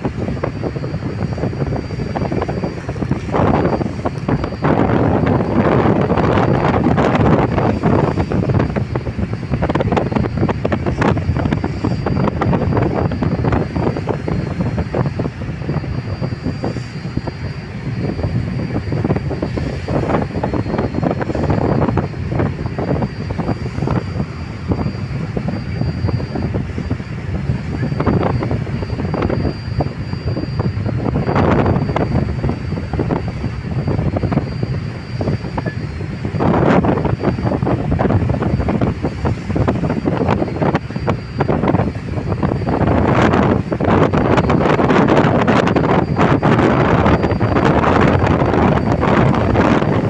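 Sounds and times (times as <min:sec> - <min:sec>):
faint high whine: 0:00.0 - 0:50.0
steady low rumble: 0:00.0 - 0:50.0
wind buffeting microphone: 0:00.0 - 0:50.0.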